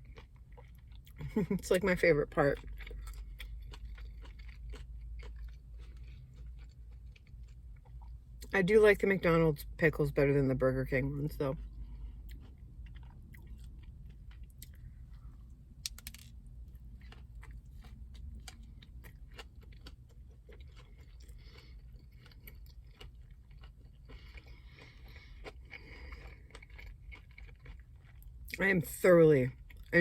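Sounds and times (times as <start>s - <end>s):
close-up chewing: 0.0s - 8.5s, 11.5s - 15.6s, 16.5s - 28.6s.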